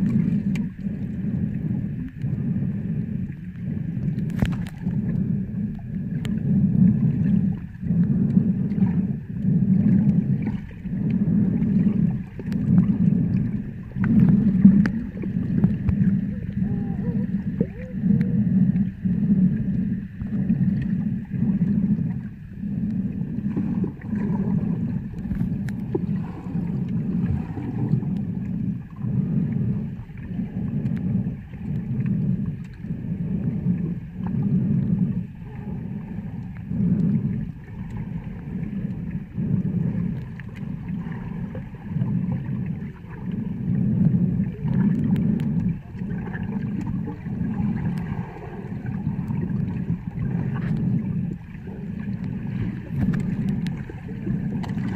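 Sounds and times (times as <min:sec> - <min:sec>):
muffled underwater whoosh: 0:00.0 - 0:54.9.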